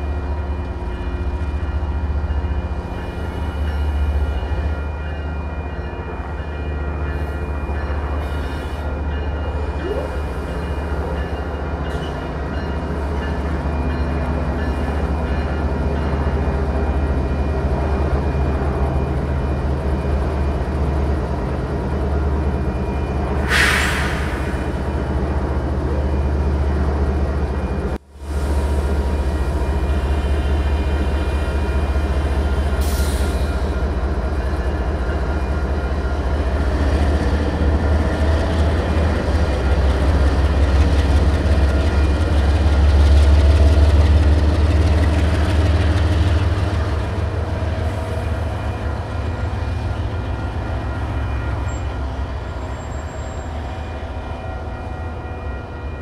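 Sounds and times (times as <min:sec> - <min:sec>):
locomotive engines rumbling: 0:00.0 - 0:56.0.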